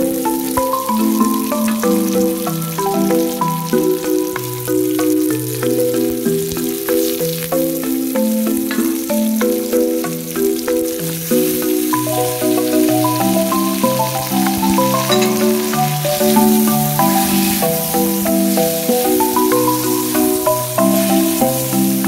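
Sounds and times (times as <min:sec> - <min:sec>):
background music sustained notes: 0:00.0 - 0:22.0
food sizzling in oil: 0:00.0 - 0:22.0.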